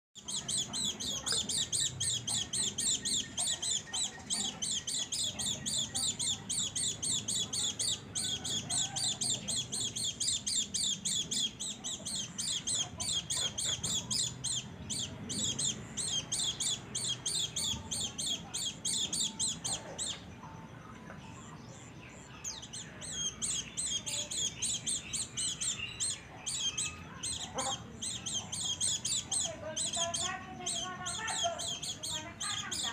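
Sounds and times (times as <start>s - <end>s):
bird chirping rapidly: 0.2s - 20.4s, 22.1s - 32.9s.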